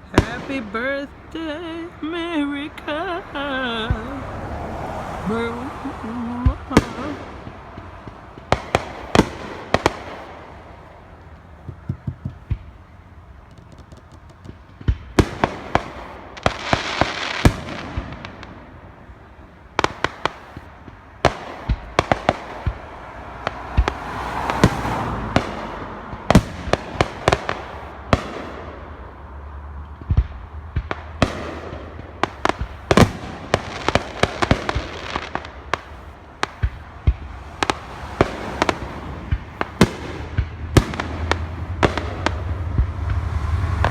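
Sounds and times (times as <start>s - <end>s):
firework crackling: 0.0s - 43.9s.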